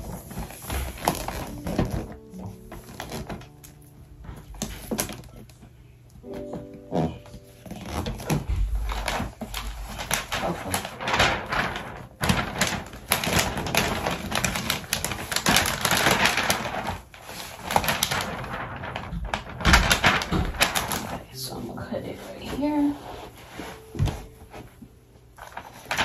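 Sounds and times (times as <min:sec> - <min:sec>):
wrapping paper rustling: 0:00.0 - 0:26.0.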